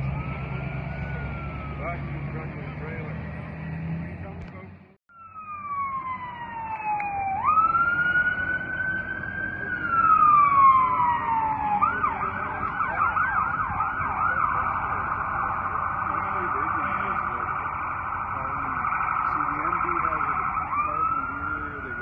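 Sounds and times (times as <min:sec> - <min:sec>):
fast yelping siren: 0:00.0 - 0:03.7, 0:05.1 - 0:22.0
fire truck siren wailing: 0:00.0 - 0:04.4, 0:05.1 - 0:22.0.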